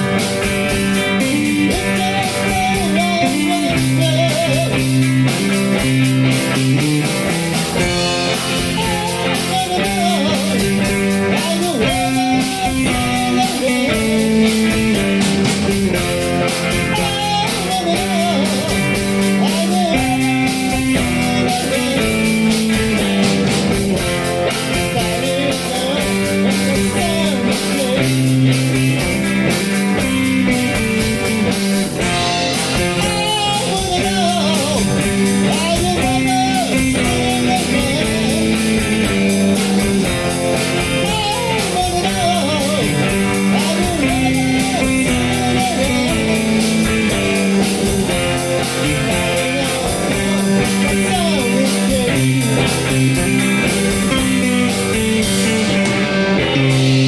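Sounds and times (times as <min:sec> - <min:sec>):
high ticking beat: 0:00.0 - 0:57.0
person singing: 0:00.0 - 0:57.0
rock song with guitar: 0:00.0 - 0:57.0.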